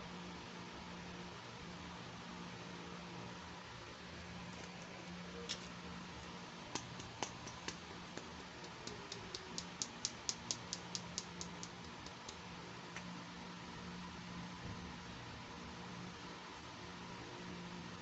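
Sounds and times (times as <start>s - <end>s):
faint hiss and hum: 0.0s - 18.0s.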